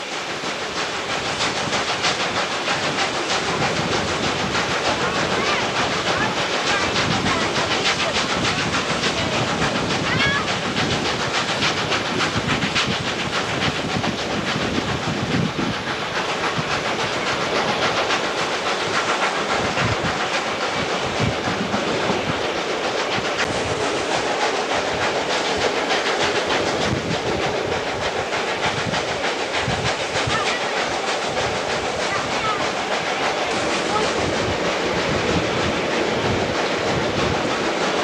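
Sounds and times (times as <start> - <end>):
steam train running on track: 0.0 - 38.0
wind buffeting microphone: 0.3 - 38.0.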